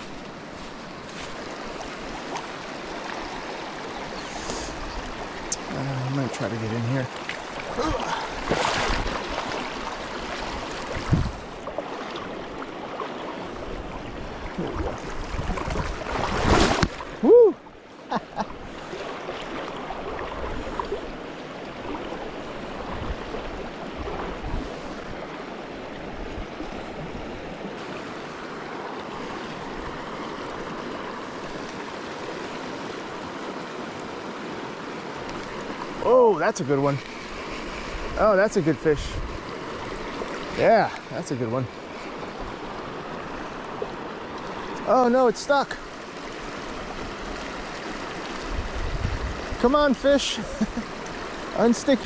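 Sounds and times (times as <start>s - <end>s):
creek water running: 0.0s - 52.0s.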